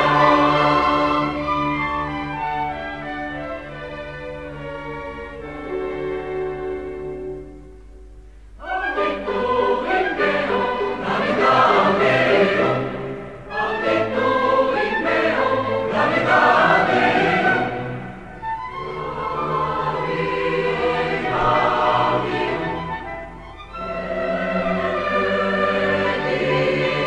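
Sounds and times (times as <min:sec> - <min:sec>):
choir singing: 0:00.0 - 0:03.9, 0:08.6 - 0:27.0.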